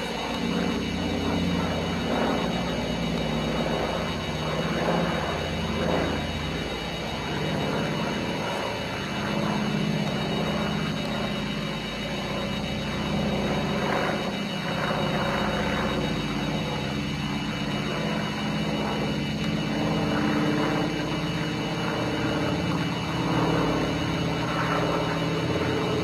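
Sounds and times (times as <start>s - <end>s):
propeller plane engines droning: 0.0s - 26.0s.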